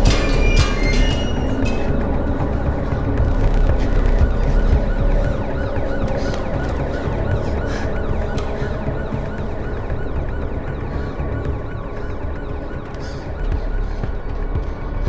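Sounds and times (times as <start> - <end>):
police siren wailing: 0.0 - 15.0.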